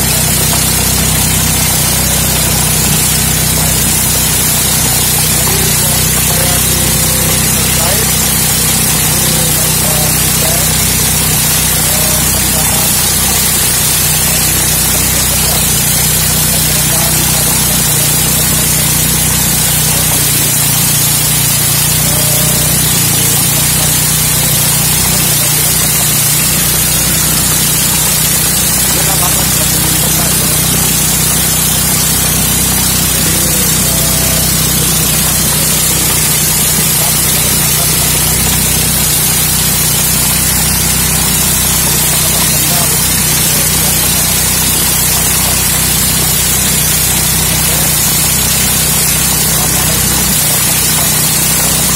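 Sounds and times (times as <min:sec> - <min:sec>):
corn sheller rushing hiss: 0:00.0 - 0:51.9
motor hum: 0:00.0 - 0:51.9.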